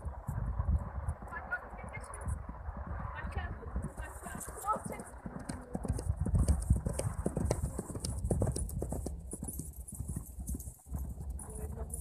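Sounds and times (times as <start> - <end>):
horse hooves clip-clopping: 0.0 - 12.0.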